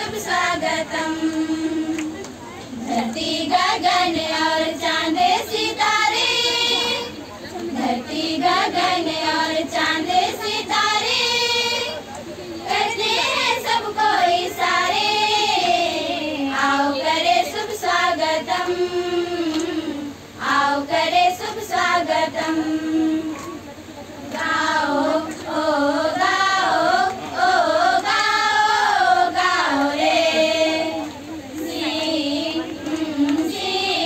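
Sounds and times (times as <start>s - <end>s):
girls singing together: 0.0s - 34.0s.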